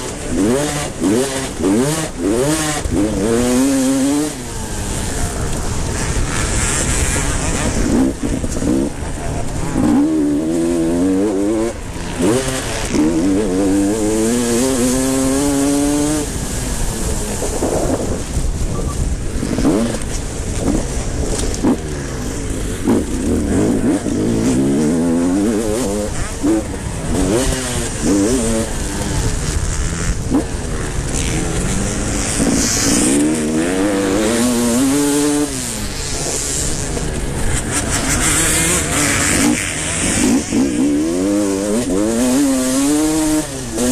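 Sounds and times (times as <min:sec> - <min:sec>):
motocross motorcycles revving: 0:00.0 - 0:43.9.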